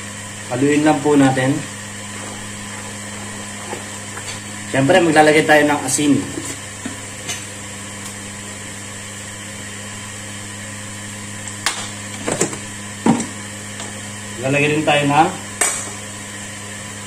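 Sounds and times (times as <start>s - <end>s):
steady appliance hum: 0.0s - 17.0s.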